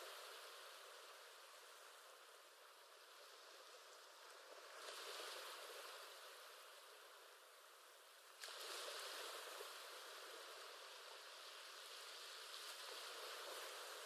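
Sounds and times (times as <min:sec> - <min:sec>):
ocean surf hiss: 0:00.0 - 0:14.0.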